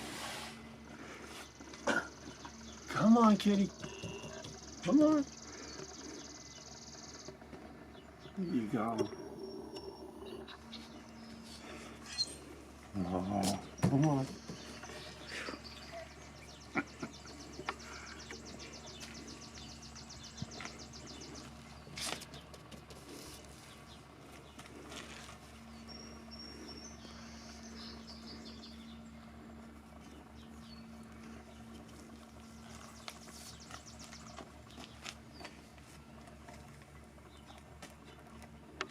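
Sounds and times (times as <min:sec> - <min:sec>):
steady low hum: 0:00.0 - 0:38.9
birds chirping: 0:00.5 - 0:38.9.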